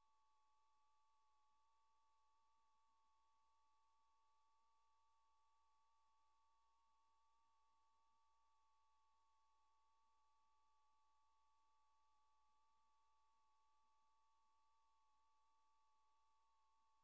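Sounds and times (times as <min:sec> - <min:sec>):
faint steady high tone: 0:00.0 - 0:17.0.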